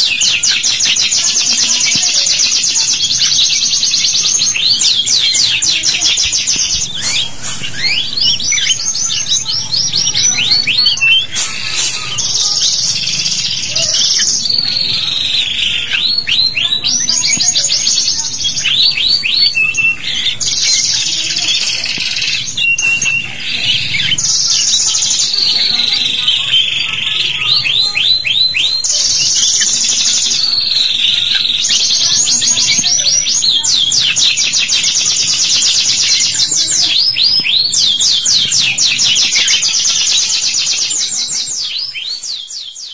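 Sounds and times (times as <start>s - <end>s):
canaries singing trills: 0.0s - 42.9s.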